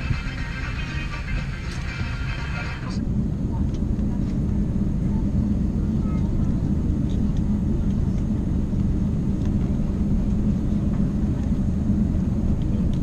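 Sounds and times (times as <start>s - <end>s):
aircraft cabin rumble and hum: 0.0s - 13.0s.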